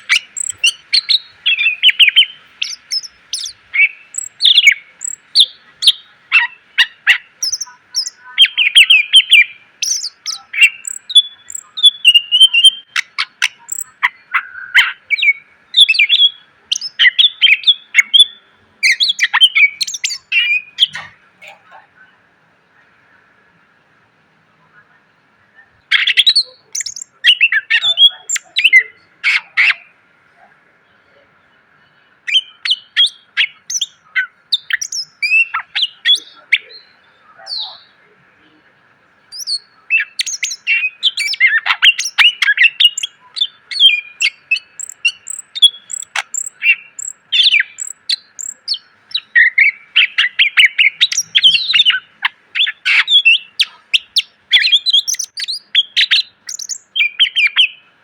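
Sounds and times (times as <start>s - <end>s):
bird singing varied song: 0.0s - 23.6s, 24.5s - 58.0s
faint steady hiss: 0.0s - 58.0s.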